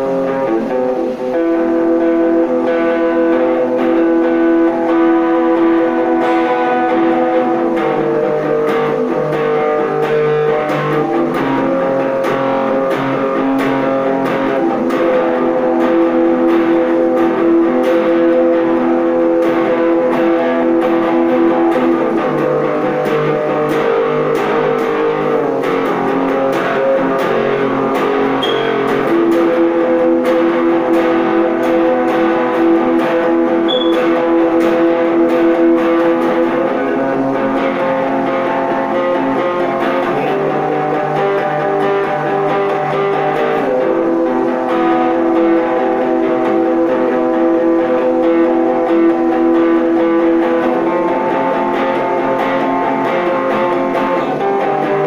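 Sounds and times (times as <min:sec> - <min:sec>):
electric guitar chords: 0:00.0 - 0:55.0.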